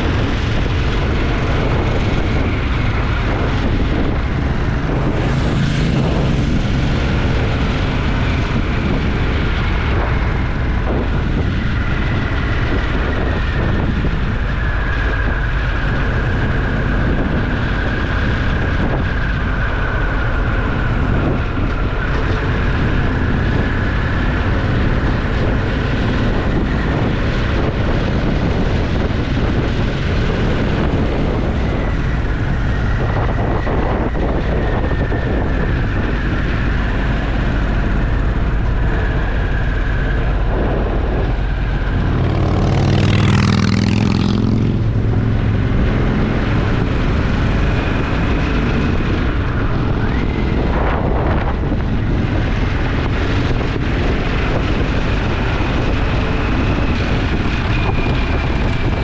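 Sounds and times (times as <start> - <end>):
motorcycle engine running: 0.0 - 59.0
wind rushing: 0.0 - 59.0.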